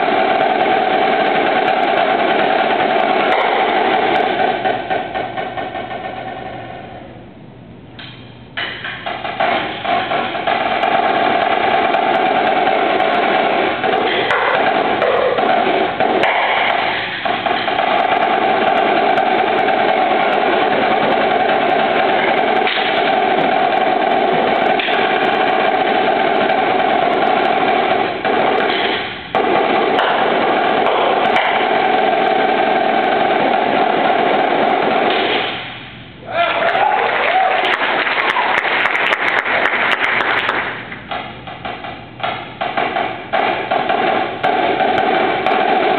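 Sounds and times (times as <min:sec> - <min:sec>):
snare drum rolls: 0:00.0 - 0:07.0, 0:08.0 - 0:45.9.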